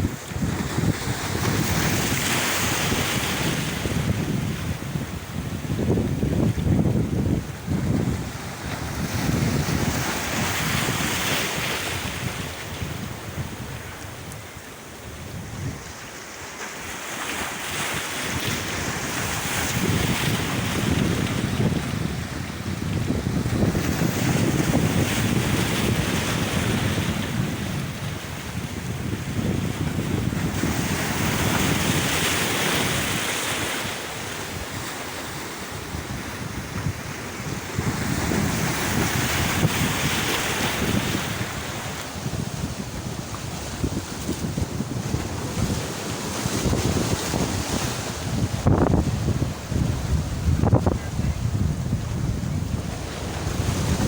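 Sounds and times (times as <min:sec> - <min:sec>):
wind buffeting microphone: 0:00.0 - 0:16.1, 0:18.2 - 0:34.9, 0:35.6 - 0:54.0
sea waves washing ashore: 0:00.0 - 0:54.0.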